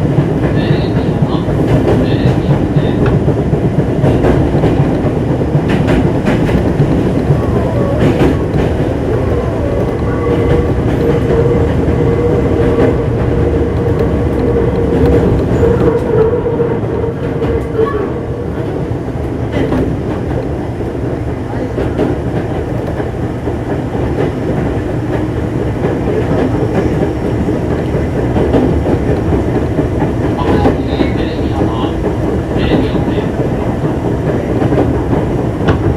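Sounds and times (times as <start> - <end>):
wheel clicks over rail joints: 0.0 - 17.8, 18.6 - 35.9
wheels rumbling on rail: 0.0 - 35.9.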